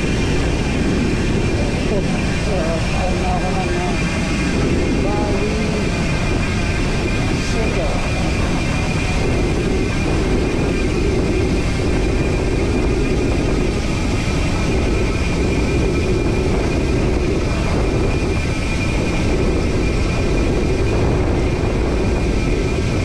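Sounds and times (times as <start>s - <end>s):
road noise while cycling: 0.0s - 23.0s
wind noise: 0.0s - 23.0s.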